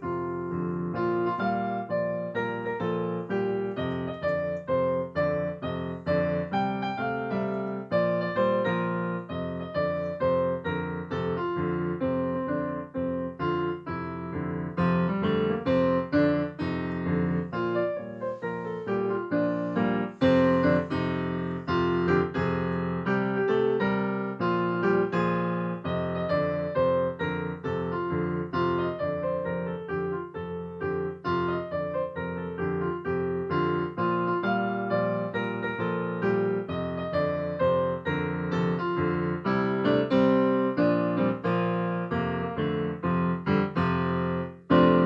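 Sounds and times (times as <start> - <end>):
slow piano melody: 0.0 - 45.0.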